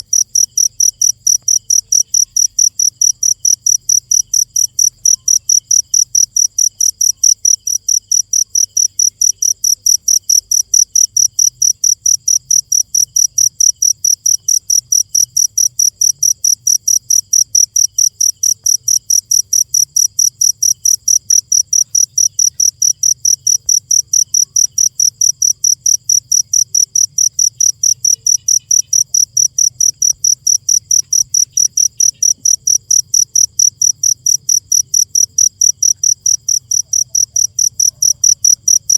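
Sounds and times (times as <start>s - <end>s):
insect chirping: 0.0s - 38.9s.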